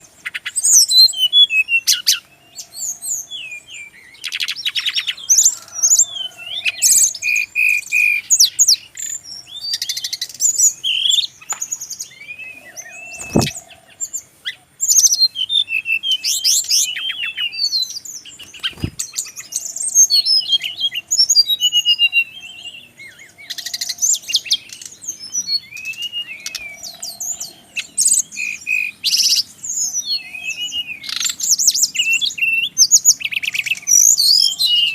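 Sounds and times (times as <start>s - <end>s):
bird singing: 0.0s - 34.9s.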